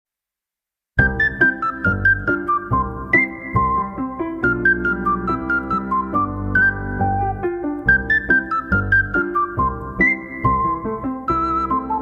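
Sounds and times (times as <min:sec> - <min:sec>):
bright melody over bass: 0:01.0 - 0:12.0.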